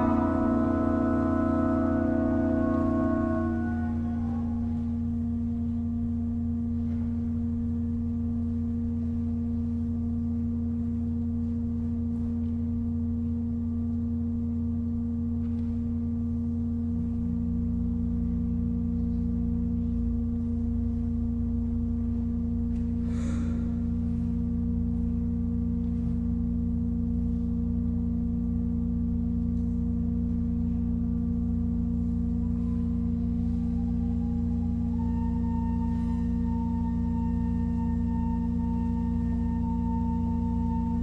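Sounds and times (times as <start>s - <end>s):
pipe organ chord: 0.0s - 41.0s.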